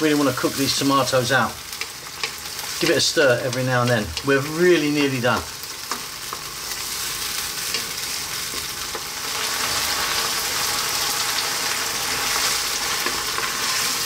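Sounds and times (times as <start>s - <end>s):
sauce sizzling in a pan: 0.0s - 14.0s.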